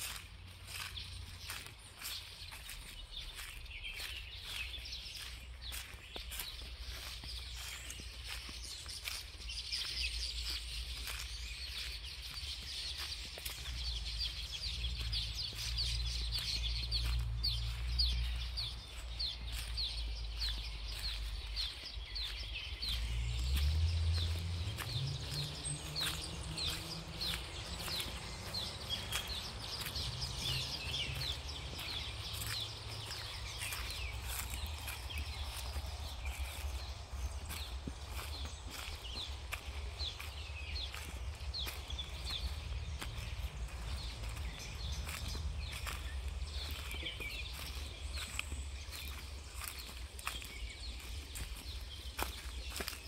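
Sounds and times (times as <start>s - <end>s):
birds chirping: 0.0s - 53.0s
footsteps on dirt path: 0.0s - 53.0s.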